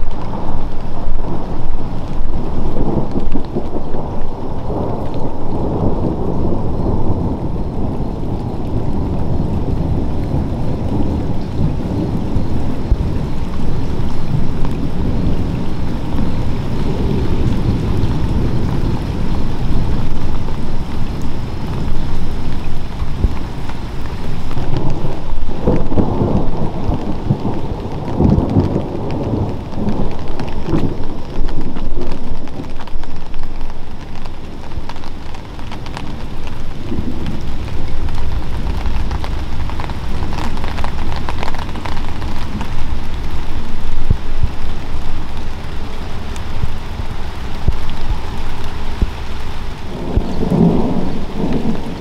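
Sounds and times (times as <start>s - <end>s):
steady rain falling: 0.0s - 52.0s
thunder rumbling: 0.0s - 52.0s.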